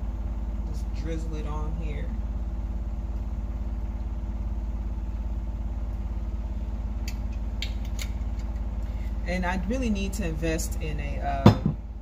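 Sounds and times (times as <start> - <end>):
low fluttering hum: 0.0 - 12.0.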